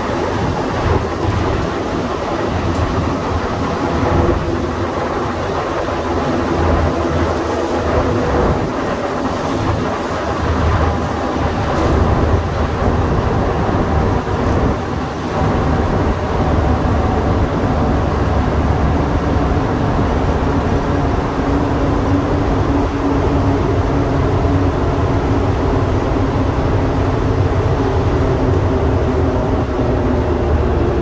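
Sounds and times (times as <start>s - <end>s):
train rumbling through tunnel: 0.0s - 31.0s.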